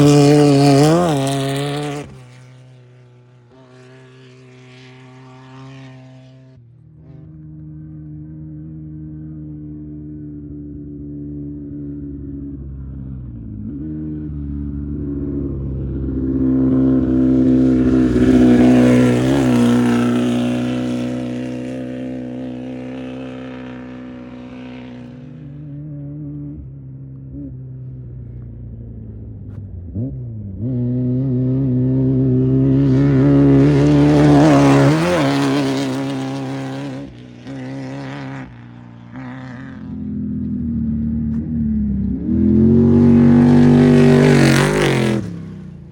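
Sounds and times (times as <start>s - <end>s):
race vehicles revving past: 0.0s - 28.5s, 29.1s - 45.9s.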